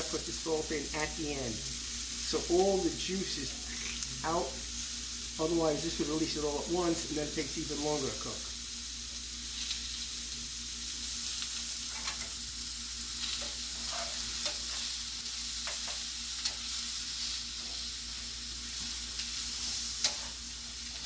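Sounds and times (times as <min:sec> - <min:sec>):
mushrooms sizzling in a frying pan: 0:00.0 - 0:21.0.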